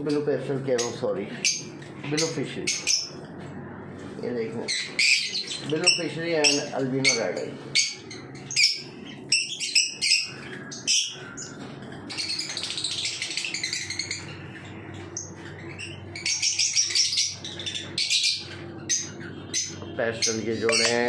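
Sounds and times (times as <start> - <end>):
lovebirds chirping: 0.7 - 3.3, 4.2 - 21.0.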